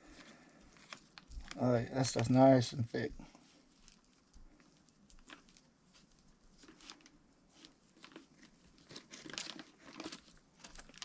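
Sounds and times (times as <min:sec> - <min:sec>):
plastic package crinkling: 0:00.1 - 0:02.7, 0:03.7 - 0:11.0.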